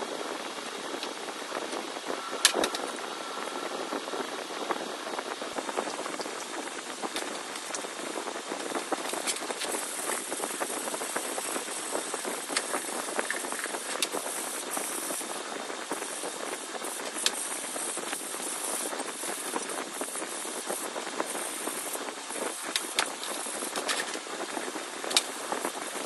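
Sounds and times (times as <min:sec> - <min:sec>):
spray paint hissing: 0:04.1 - 0:26.0.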